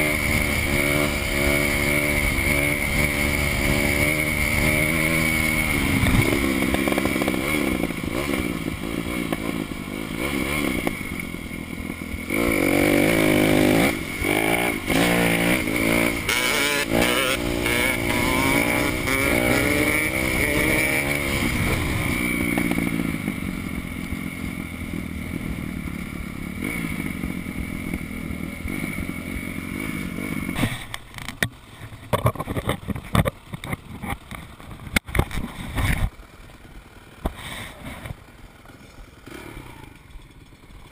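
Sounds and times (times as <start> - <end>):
dirt bike engine revving: 0.0 - 30.9, 37.2 - 40.9.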